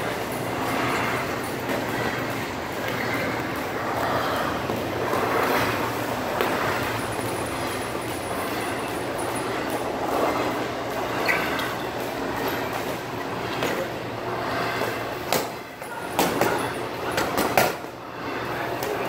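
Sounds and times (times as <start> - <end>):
steady rushing background noise: 0.0 - 19.0.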